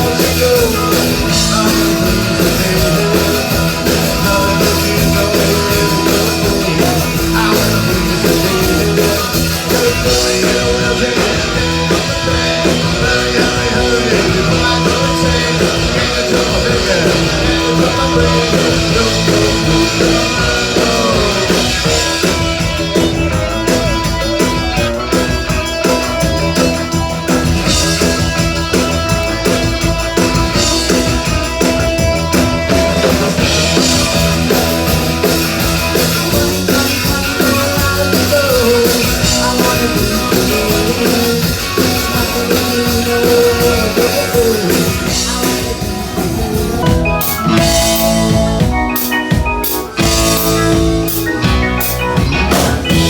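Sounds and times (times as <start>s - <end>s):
live band playing dance music: 0.0s - 53.0s.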